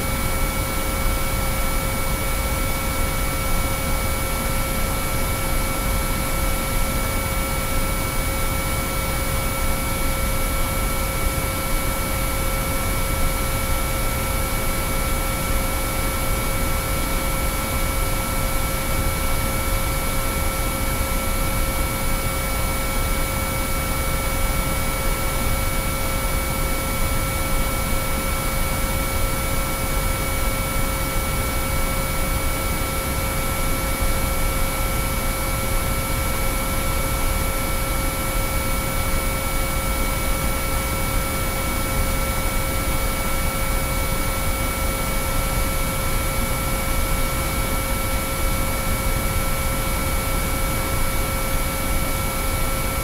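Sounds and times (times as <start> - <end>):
steady sine-wave tones: 0.0 - 53.0.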